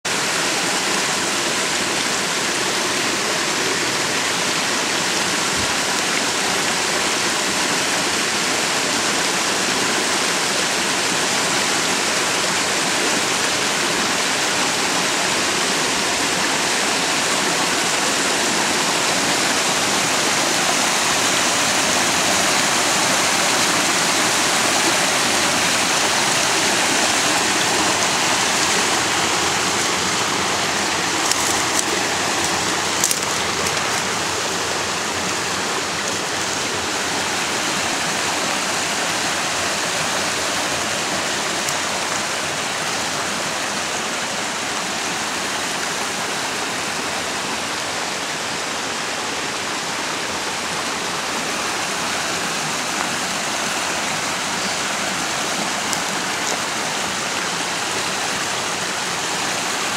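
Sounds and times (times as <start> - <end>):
waterfall rushing and splashing: 0.0 - 59.9.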